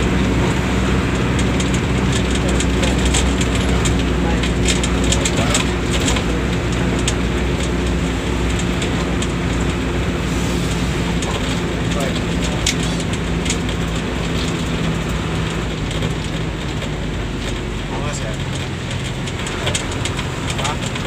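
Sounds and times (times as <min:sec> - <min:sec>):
bus engine running: 0:00.0 - 0:21.0
road and tyre noise: 0:00.0 - 0:21.0
small rattles: 0:00.0 - 0:21.0.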